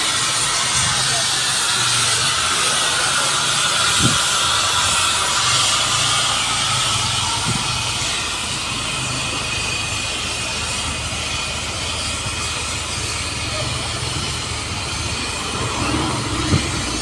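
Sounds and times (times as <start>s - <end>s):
low engine rumble: 0.0s - 17.0s
steam hissing: 0.0s - 17.0s.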